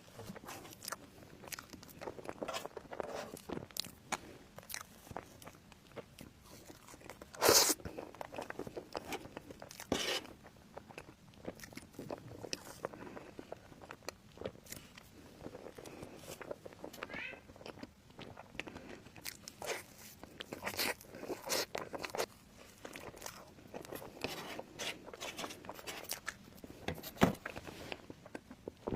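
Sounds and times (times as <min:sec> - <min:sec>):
person chewing and crunching food: 0:00.0 - 0:28.9.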